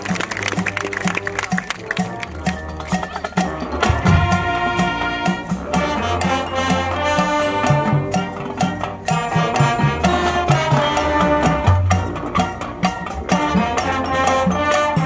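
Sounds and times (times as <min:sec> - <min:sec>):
brass chords: 0:00.0 - 0:15.0
steady drum beat: 0:00.0 - 0:15.0.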